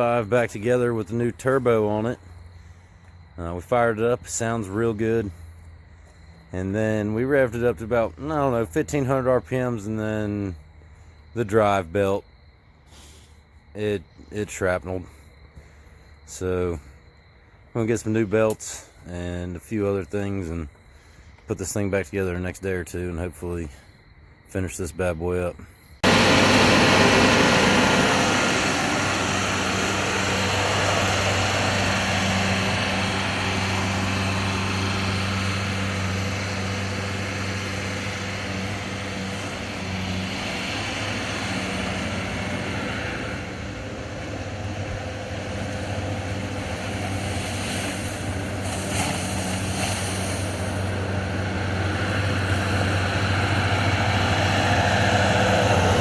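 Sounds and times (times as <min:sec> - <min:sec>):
diesel engine droning: 0:00.0 - 0:24.0, 0:24.8 - 0:56.0.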